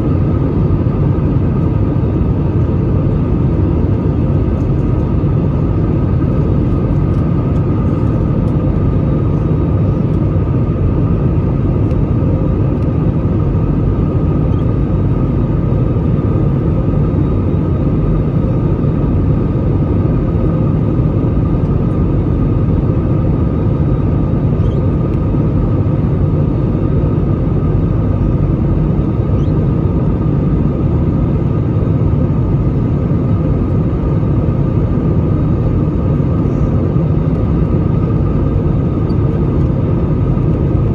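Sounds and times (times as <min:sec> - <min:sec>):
airplane cabin engine rumble: 0:00.0 - 0:40.9
steady whine: 0:00.0 - 0:40.9.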